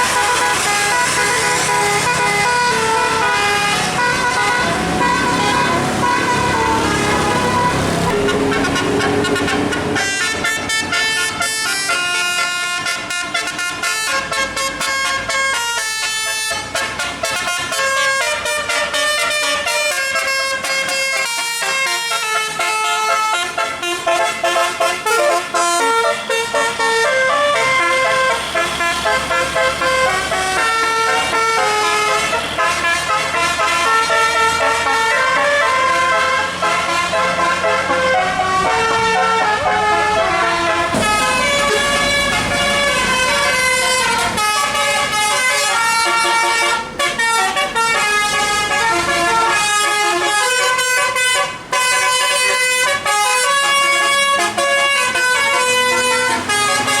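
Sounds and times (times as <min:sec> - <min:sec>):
multi-tone bus horn melody: 0:00.0 - 0:57.0.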